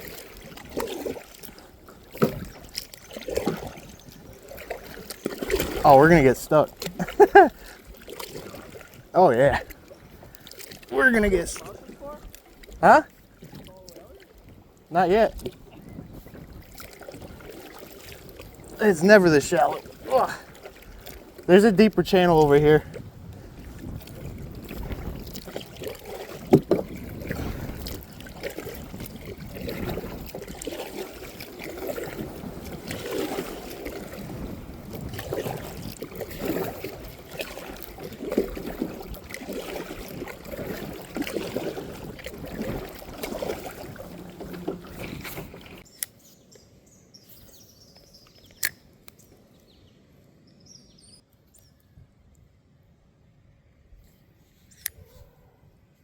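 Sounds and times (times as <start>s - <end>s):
paddle sloshing in water: 0.0s - 46.5s.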